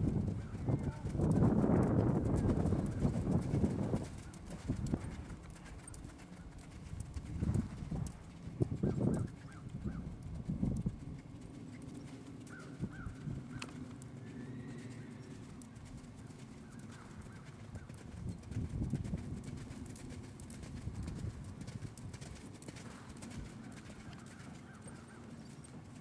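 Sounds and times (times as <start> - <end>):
hoofbeats on sand: 0.1 - 26.0.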